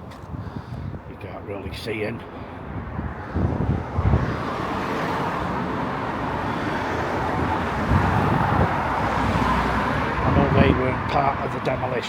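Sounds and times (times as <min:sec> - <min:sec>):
cars driving past: 0:02.3 - 0:12.0.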